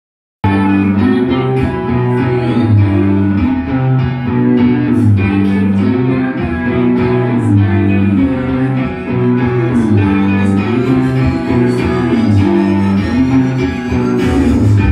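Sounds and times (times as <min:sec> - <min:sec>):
bass guitar line: 0:00.4 - 0:14.9
electric guitars: 0:00.4 - 0:14.9.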